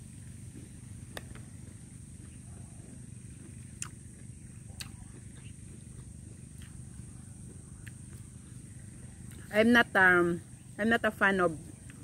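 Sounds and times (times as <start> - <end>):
steady faint hum: 0.0 - 12.0
faint fruit crackles and clicks: 0.5 - 9.7, 11.6 - 12.0.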